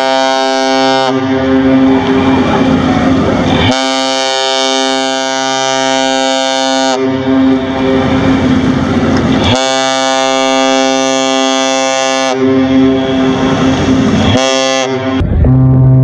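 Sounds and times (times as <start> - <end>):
deep ship's horn: 0.0 - 16.0
rough noisy horn sound: 0.0 - 16.0.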